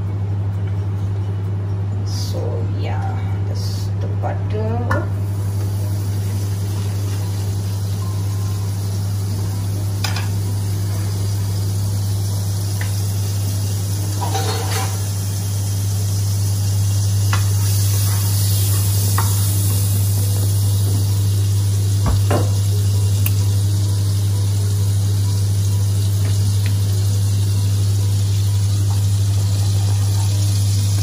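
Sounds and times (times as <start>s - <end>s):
steady low hum: 0.0s - 31.0s
butter sizzling in a wok: 5.1s - 31.0s.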